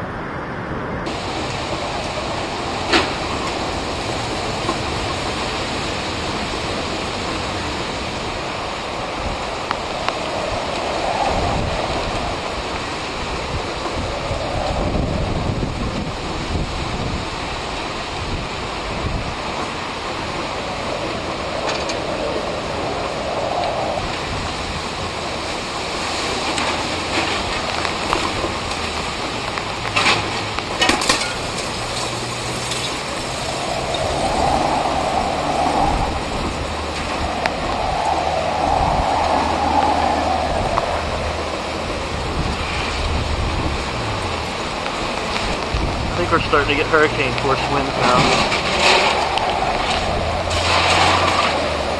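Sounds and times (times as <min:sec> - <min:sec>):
driving rain: 0:00.0 - 0:51.9
hurricane wind: 0:00.0 - 0:51.9
wind buffeting microphone: 0:00.0 - 0:51.9.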